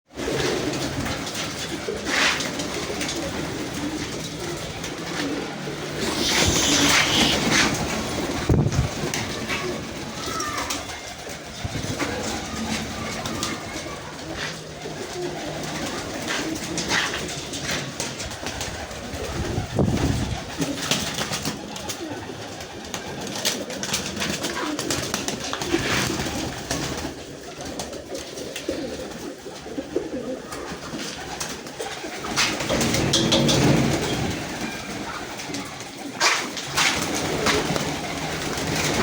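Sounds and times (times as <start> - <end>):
pigeons cooing: 0.1 - 39.0.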